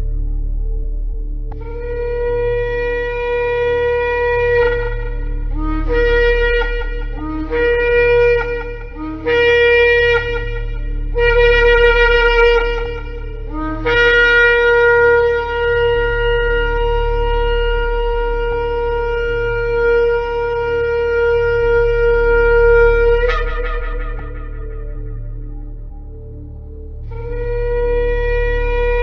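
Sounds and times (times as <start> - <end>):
shofar blasts: 1.5 - 29.0.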